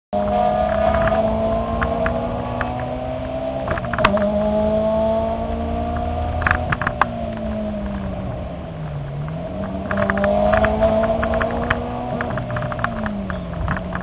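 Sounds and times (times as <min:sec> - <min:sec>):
car engine running under load: 0:00.2 - 0:14.0.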